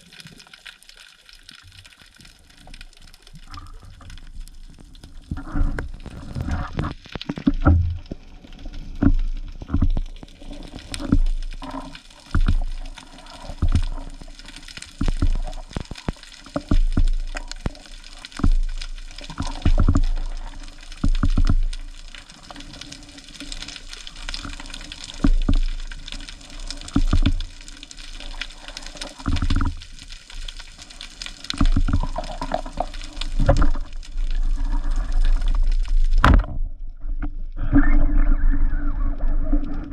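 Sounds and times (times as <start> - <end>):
water surging and sloshing: 0.0 - 39.9.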